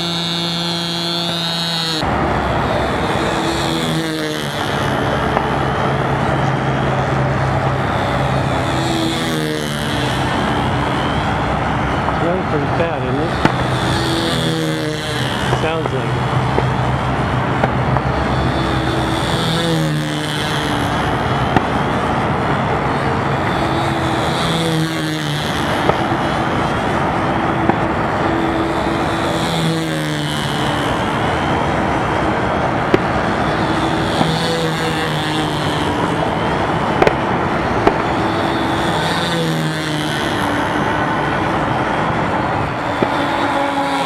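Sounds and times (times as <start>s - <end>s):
model airplane engine buzzing: 0.0s - 44.0s.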